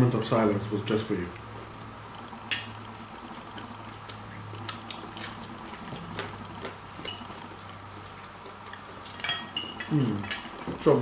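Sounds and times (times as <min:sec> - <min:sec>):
chewing: 0:01.4 - 0:10.7.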